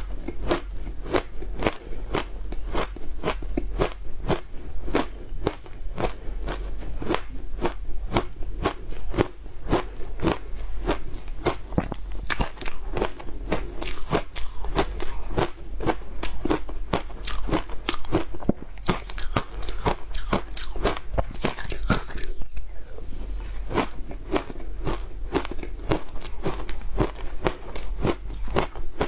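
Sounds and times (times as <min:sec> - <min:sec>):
chewing crunchy ice: 0:00.0 - 0:29.0.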